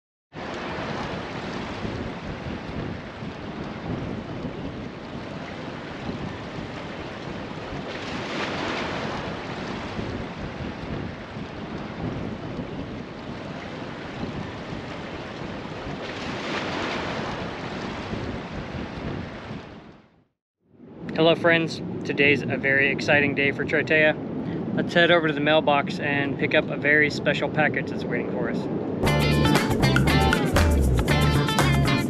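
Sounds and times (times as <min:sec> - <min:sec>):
ocean surf rushing: 0:00.4 - 0:19.8, 0:20.9 - 0:32.0.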